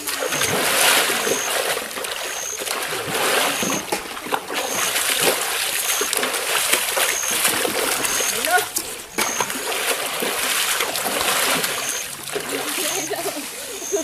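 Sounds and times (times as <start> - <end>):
water splashing: 0.0 - 14.0.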